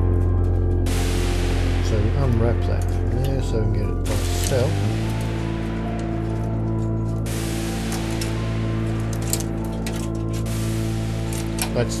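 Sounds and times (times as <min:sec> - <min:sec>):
music of held tones: 0:00.0 - 0:12.0.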